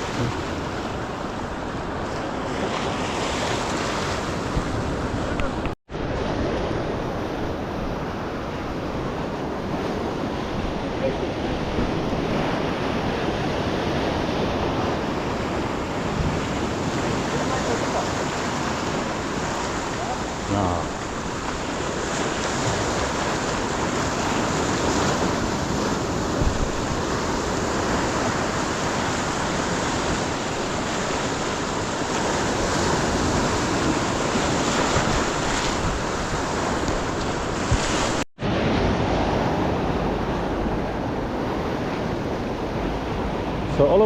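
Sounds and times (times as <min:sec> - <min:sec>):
wind buffeting microphone: 0:00.0 - 0:43.8
ocean surf washing onto beach: 0:00.0 - 0:44.0.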